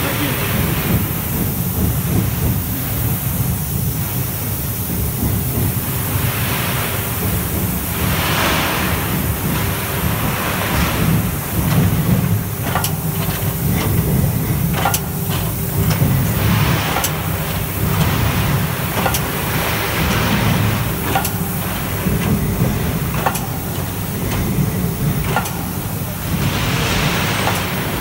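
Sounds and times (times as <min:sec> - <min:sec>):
forging press rumbling: 0:00.0 - 0:28.0.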